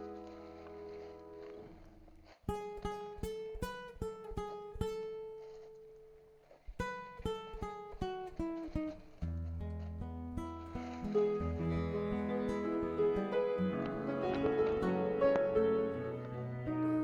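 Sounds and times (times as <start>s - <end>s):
acoustic guitar melody: 0.0s - 17.0s.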